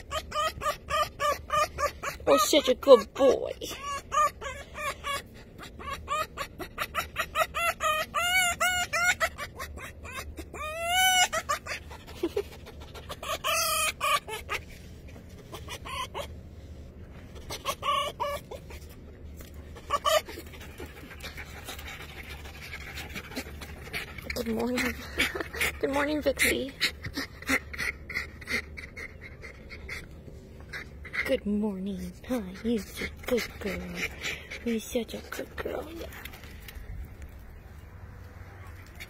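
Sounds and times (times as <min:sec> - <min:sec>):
fox clucking chatter: 0:00.0 - 0:16.5, 0:17.2 - 0:36.4.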